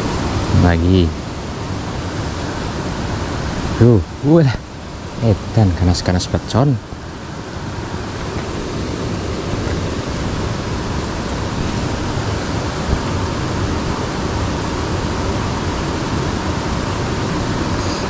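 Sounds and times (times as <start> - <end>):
water rushing along ditch: 0.0 - 18.0.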